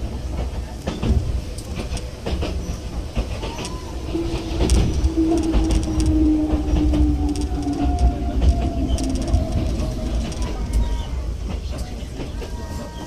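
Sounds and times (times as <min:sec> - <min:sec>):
train rumble: 0:00.0 - 0:13.0
wheels clicking over rail joints: 0:00.0 - 0:13.0.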